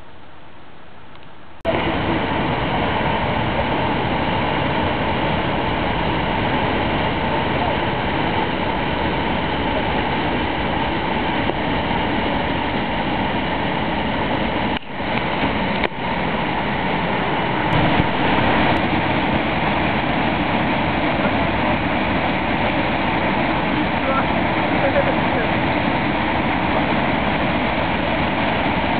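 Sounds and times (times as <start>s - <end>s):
waterfall rushing: 1.5s - 28.9s.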